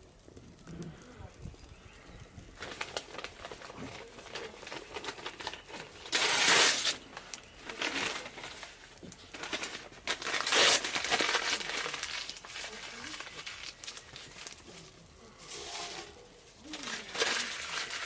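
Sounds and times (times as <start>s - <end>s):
firewood crackling: 0.0s - 18.0s
rustling bursts: 1.3s - 18.0s.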